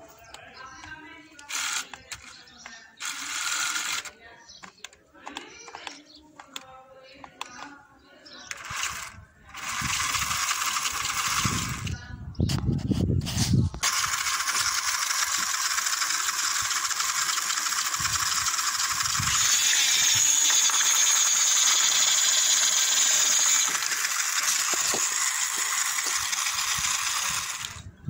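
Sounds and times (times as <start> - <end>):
toy motors whirring: 0.1 - 28.0.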